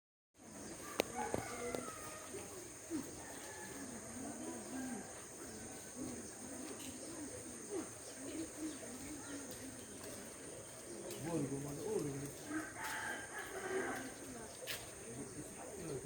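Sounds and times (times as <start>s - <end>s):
birds cooing: 0.4s - 16.0s.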